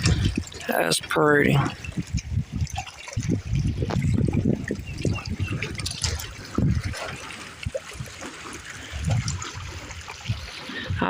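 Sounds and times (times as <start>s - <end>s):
low rumbles and thumps: 0.0s - 11.0s
water lapping at shore: 0.0s - 11.0s.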